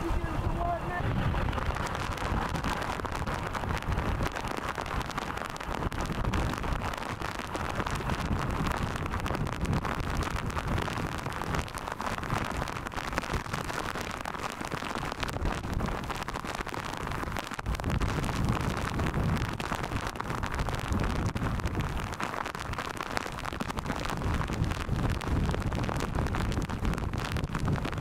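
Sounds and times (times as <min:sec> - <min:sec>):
heavy rain: 0:00.0 - 0:28.0
storm wind buffeting microphone: 0:00.0 - 0:28.0.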